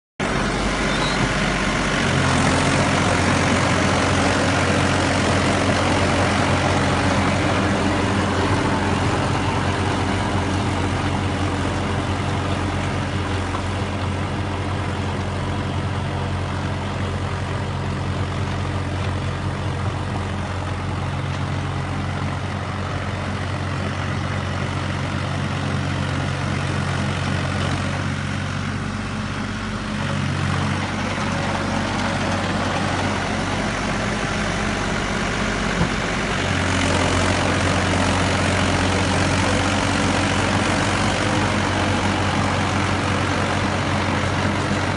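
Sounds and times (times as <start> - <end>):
tractor diesel engine under load: 0.2 - 44.9.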